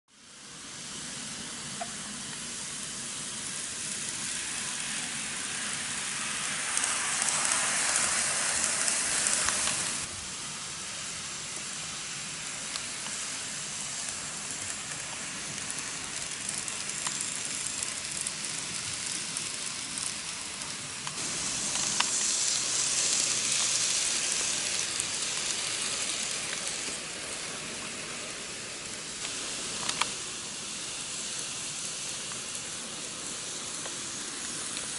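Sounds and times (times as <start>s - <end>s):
model train wheels and motors hissing: 0.1s - 34.9s.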